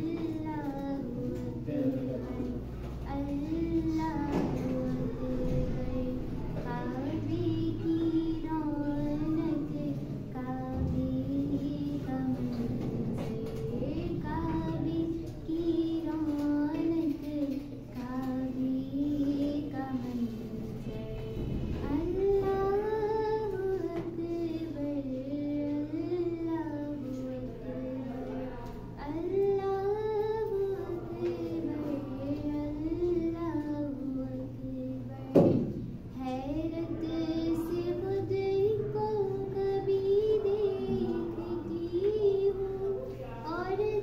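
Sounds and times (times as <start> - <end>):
girl singing: 0.0 - 44.0.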